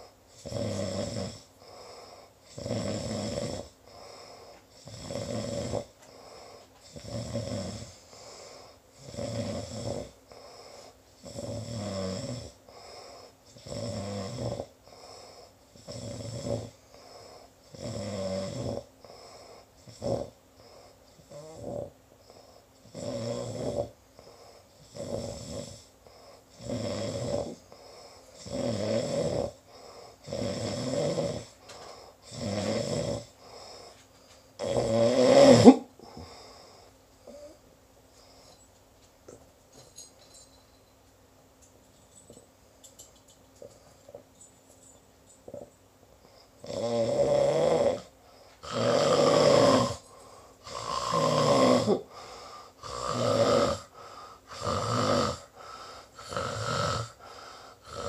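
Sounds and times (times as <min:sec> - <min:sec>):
rhythmic snoring: 0:00.0 - 0:37.6, 0:45.4 - 0:58.0.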